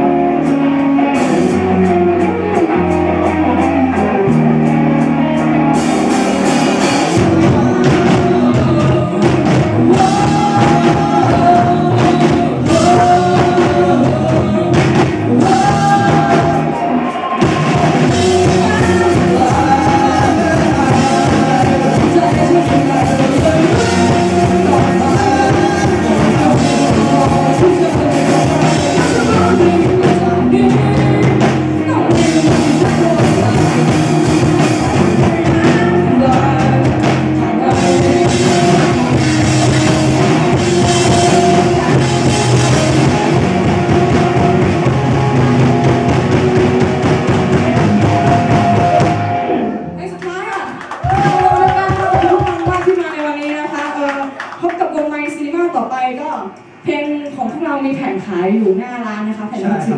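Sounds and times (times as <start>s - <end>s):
person singing: 0.0s - 50.0s
rock band playing live: 0.0s - 57.4s.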